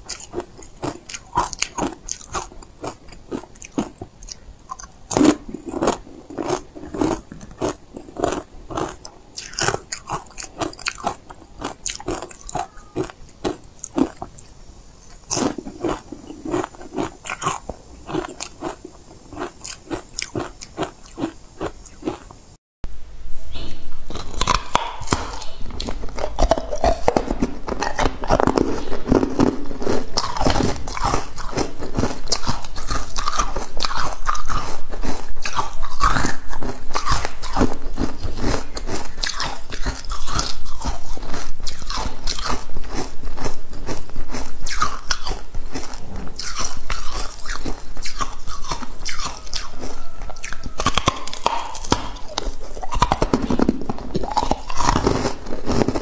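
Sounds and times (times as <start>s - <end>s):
crunching frozen ice: 0.0s - 4.0s, 4.8s - 14.5s, 15.3s - 22.3s, 24.1s - 56.0s.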